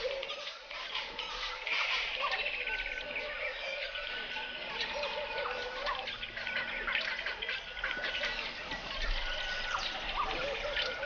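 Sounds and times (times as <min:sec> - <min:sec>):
high bird chirps and trills: 0:00.0 - 0:11.0
low warbling bird calls: 0:00.0 - 0:11.0.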